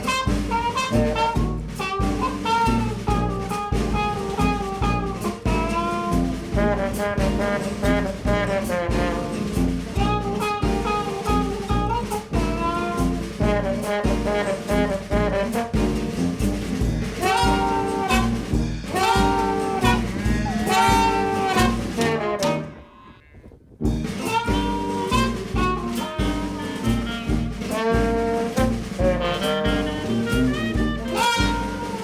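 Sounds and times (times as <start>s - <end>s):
upbeat jazz music with saxophone: 0.0s - 32.0s.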